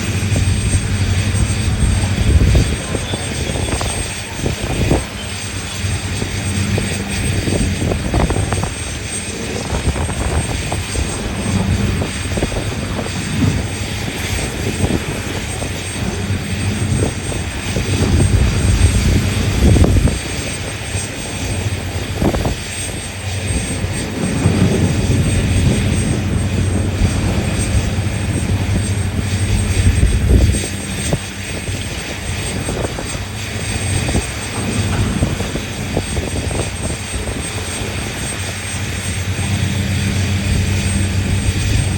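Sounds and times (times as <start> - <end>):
diesel engines droning: 0.0 - 41.9.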